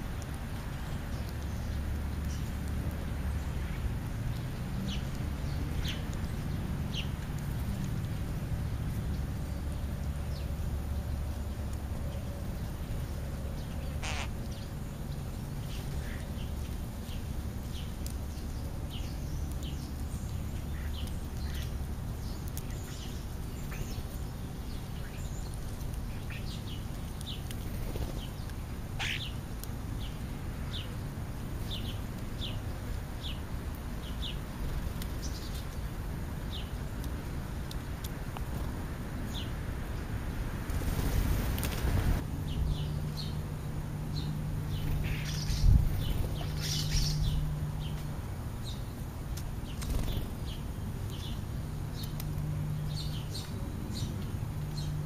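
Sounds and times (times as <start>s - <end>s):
birds chirping: 0.0s - 55.0s
steady low rumble: 0.0s - 55.0s.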